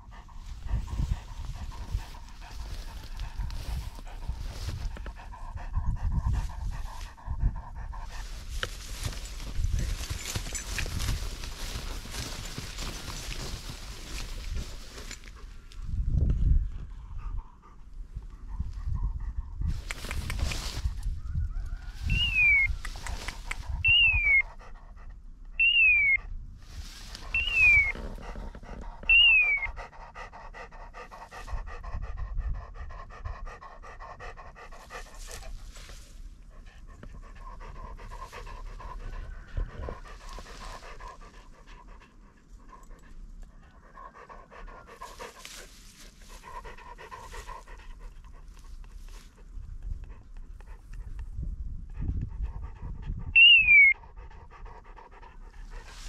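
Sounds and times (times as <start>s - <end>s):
dog panting: 0.0s - 16.0s, 16.8s - 21.1s, 22.5s - 25.6s, 26.9s - 56.0s.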